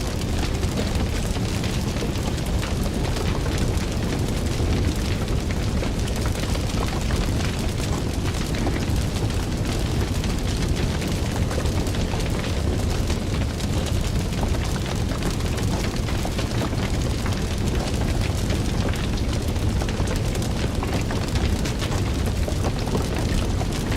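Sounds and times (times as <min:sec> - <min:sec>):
fire roaring and crackling: 0:00.0 - 0:23.9.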